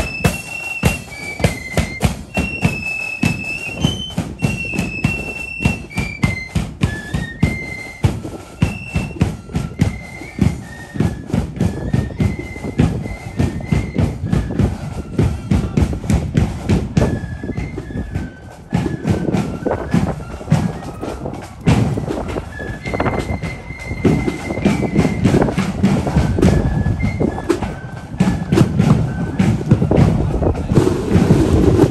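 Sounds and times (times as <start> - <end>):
flutes playing melody: 0.0 - 31.9
marching drum beat: 0.0 - 31.9.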